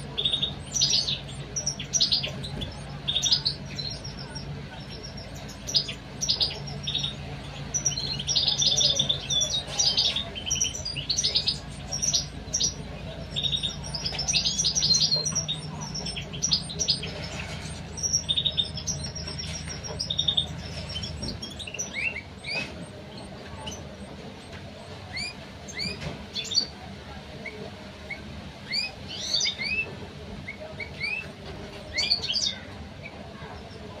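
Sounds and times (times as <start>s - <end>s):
low steady hum: 0.0s - 34.0s
nestlings chirping: 0.0s - 34.0s.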